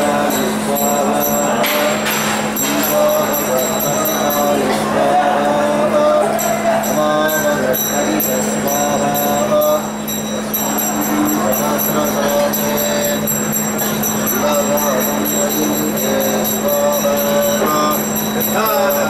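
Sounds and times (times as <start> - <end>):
group chanting: 0.0 - 19.0
hand bell ringing: 0.0 - 19.0.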